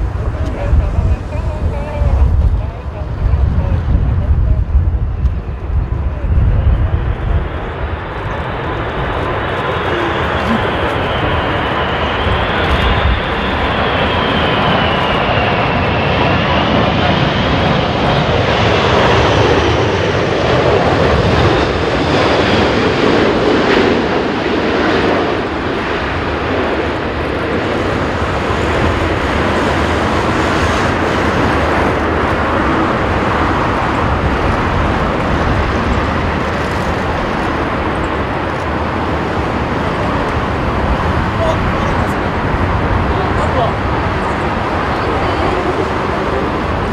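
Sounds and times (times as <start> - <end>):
jet airliner engines whining: 0.0 - 46.9
wind rumbling on microphone: 0.0 - 46.9.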